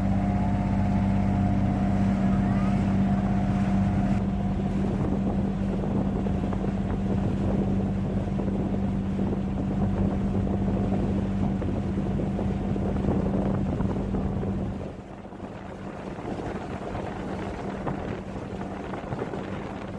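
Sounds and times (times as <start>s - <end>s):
boat motor humming: 0.0s - 19.9s
rushing water: 0.0s - 19.9s
wind noise on microphone: 0.0s - 19.9s.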